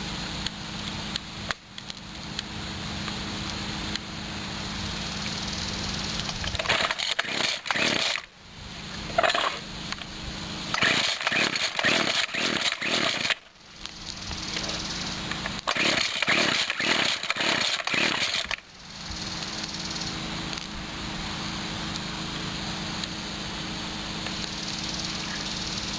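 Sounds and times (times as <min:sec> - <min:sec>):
string trimmer engine revving: 0:03.0 - 0:25.9.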